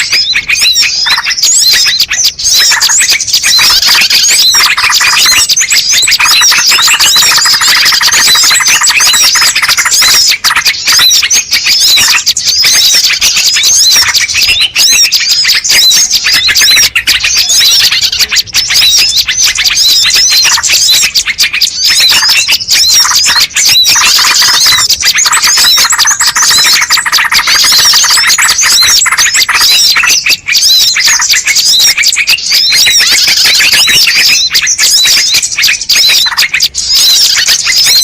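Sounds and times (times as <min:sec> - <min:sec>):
chorus of small birds chirping: 0:00.0 - 0:38.0.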